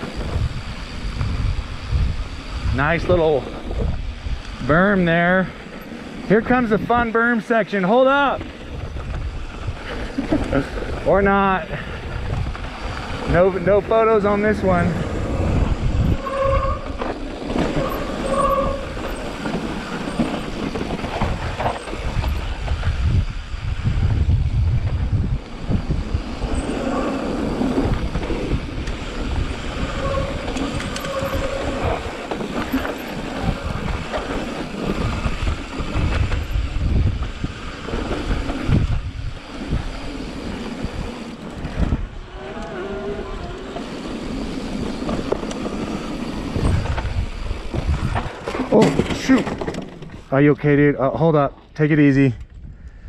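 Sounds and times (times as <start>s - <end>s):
wind buffeting microphone: 0.0s - 7.4s, 8.0s - 50.8s, 51.5s - 53.0s
bike tyres and frame rattling: 0.0s - 50.8s.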